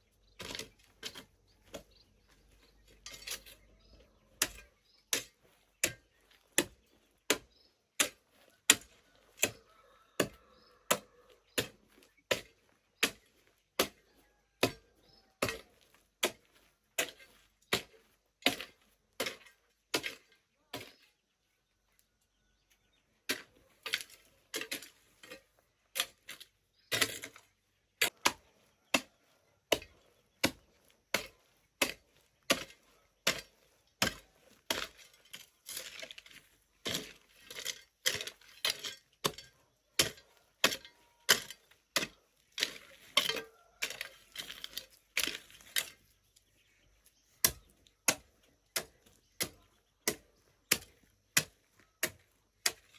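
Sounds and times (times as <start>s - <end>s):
hand tool chopping: 4.3s - 21.0s, 23.2s - 46.2s, 47.4s - 52.9s.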